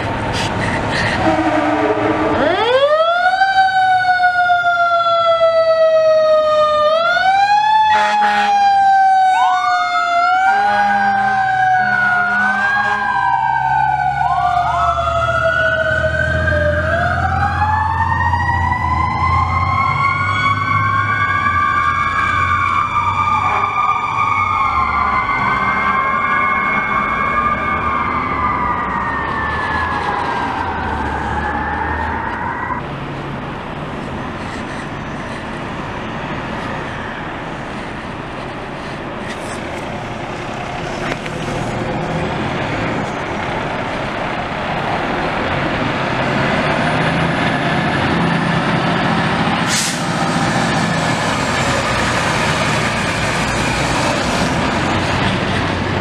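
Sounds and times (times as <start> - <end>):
fire truck sirens wailing: 0.0 - 56.0
truck engine rumble: 0.0 - 56.0.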